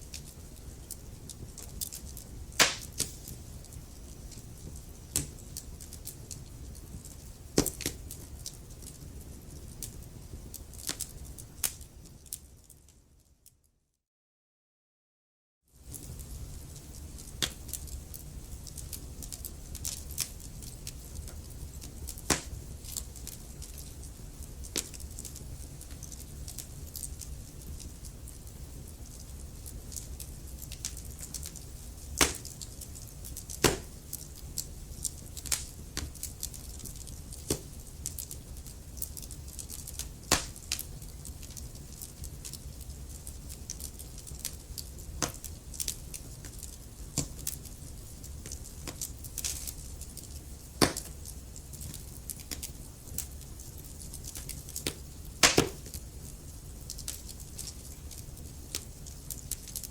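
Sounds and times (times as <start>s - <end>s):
low rumble of flames: 0.0s - 13.3s, 15.8s - 59.9s
wood fire crackling: 0.0s - 13.6s, 15.8s - 59.9s.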